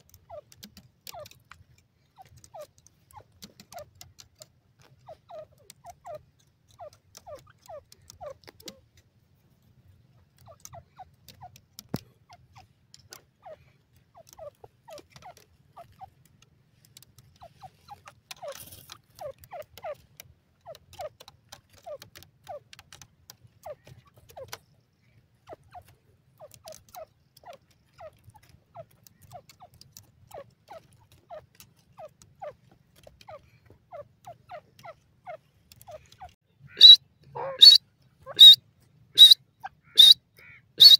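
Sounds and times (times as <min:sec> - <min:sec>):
bird clucking: 0:00.0 - 0:09.0, 0:09.6 - 0:40.9
pecking clicks on dry soil: 0:00.0 - 0:40.9.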